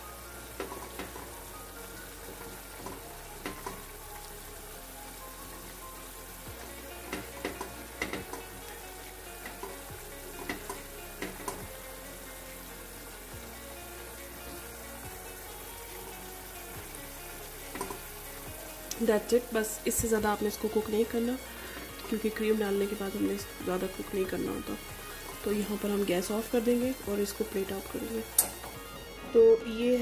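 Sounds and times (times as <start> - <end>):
steady sizzle: 0.0 - 30.0.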